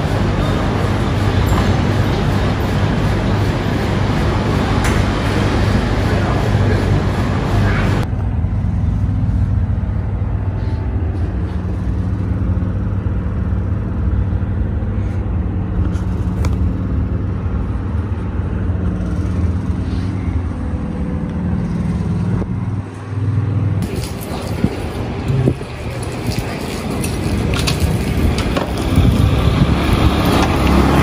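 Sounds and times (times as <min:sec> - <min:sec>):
low-pitched hum: 0:00.0 - 0:31.0
street noise: 0:00.0 - 0:31.0.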